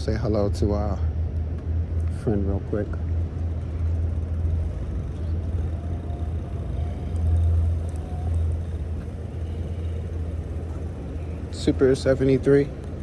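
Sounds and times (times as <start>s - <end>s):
bike tires rolling on ground: 1.4s - 13.0s.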